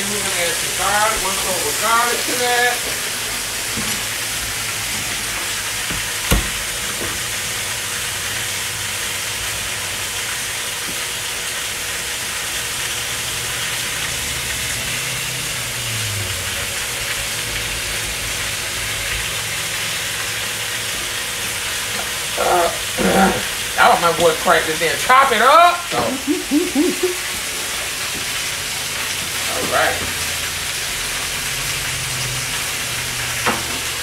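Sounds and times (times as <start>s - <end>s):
vegetables sizzling in grease: 0.0s - 34.0s.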